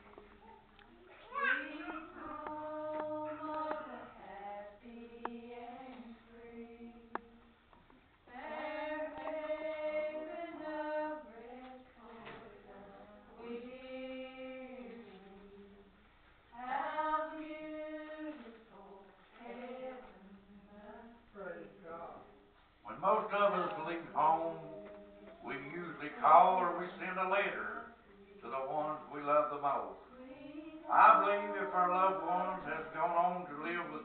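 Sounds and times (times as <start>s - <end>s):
person singing unaccompanied: 1.3s - 7.5s, 8.3s - 15.9s, 16.5s - 21.2s, 22.9s - 34.0s.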